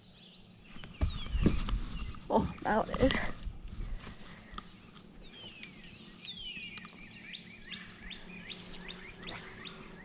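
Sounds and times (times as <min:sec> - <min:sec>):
faint birds singing: 0:00.0 - 0:10.0.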